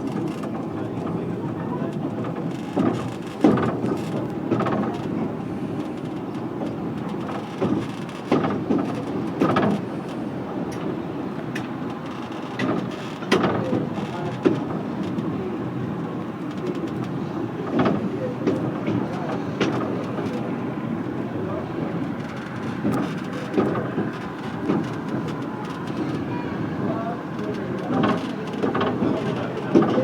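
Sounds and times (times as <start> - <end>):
train clanks and knocks: 0.0 - 30.0
train wheels rumbling on track: 0.0 - 30.0.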